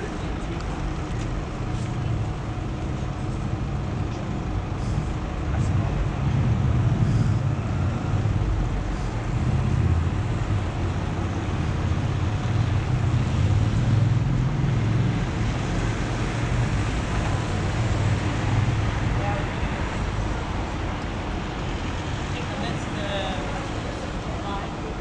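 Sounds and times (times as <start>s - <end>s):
cars and van passing: 0.0s - 25.0s
road traffic rumble: 0.0s - 25.0s.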